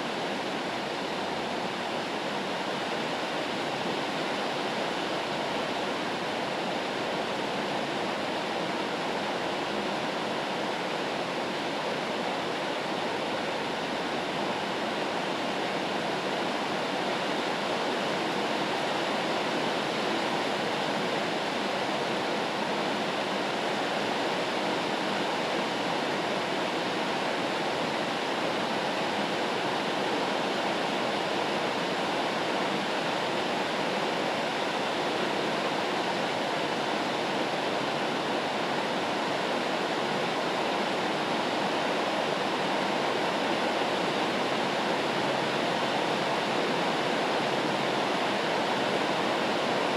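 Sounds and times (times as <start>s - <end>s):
white-noise rain hiss: 0.0s - 49.9s.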